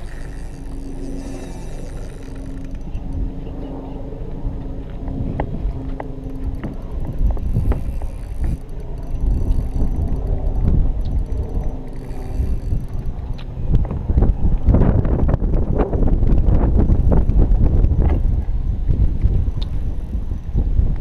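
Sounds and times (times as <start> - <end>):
low hum: 0.0 - 21.0
wind buffeting microphone: 0.0 - 21.0.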